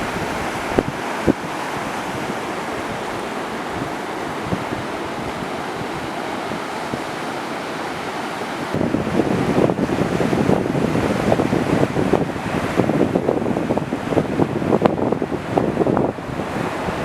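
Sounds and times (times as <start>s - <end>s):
ocean surf rushing: 0.0s - 17.0s
wind buffeting microphone: 0.0s - 17.0s.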